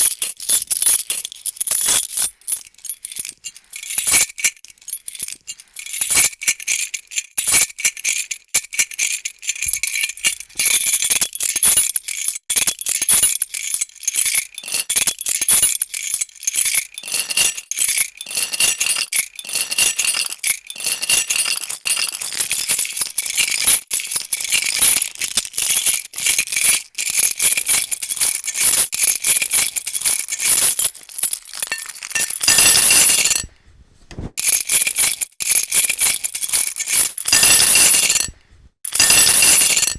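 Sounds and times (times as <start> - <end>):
metal keys jangling: 0.0 - 33.5, 34.4 - 39.9.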